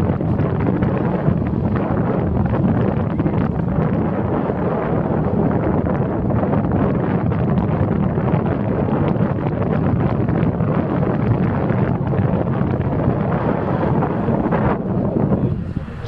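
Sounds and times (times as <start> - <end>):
car road and tyre noise: 0.0 - 16.0
wind rumble on microphone: 0.0 - 16.0.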